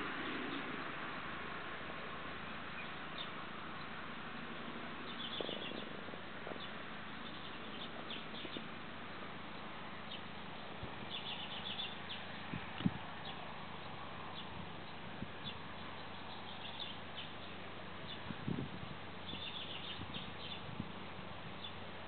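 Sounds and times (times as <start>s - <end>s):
birds chirping faintly: 2.2s - 22.0s.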